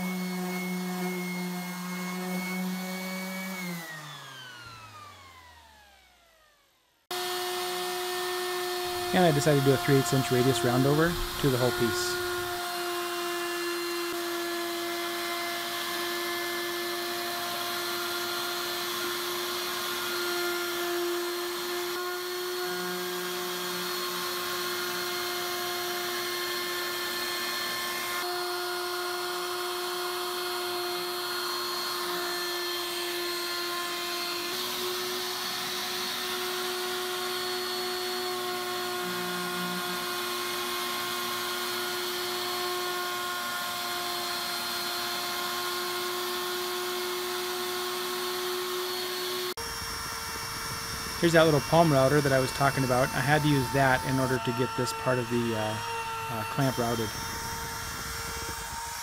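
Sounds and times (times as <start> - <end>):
router bit rasping wood: 0.0 - 5.6, 7.1 - 59.0
router motor whine: 0.0 - 59.0.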